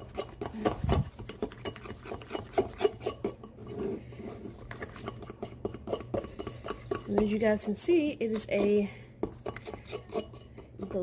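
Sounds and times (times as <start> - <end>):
fork scraping and clinking bowl: 0.0 - 11.0.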